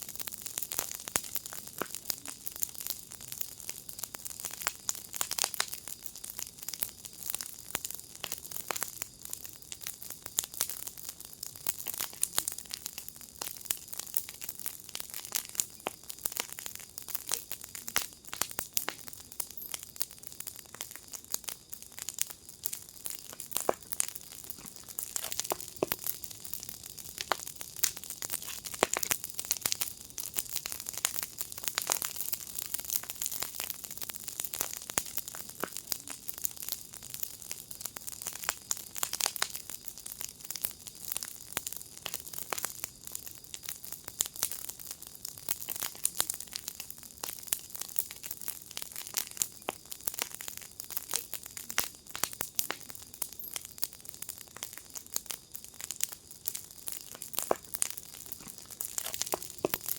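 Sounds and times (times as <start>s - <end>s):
fire hiss: 0.0s - 59.9s
wood fire crackling: 0.0s - 59.9s.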